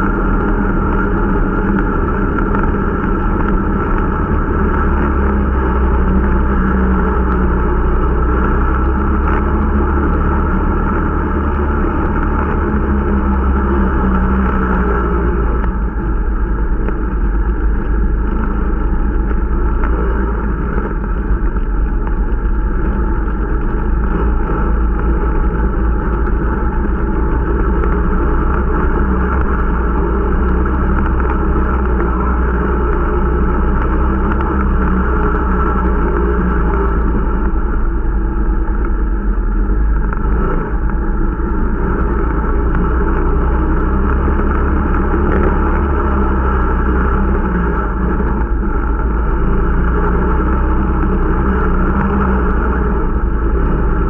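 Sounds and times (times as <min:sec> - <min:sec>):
snowmobile engine rumbling: 0:00.0 - 0:54.0.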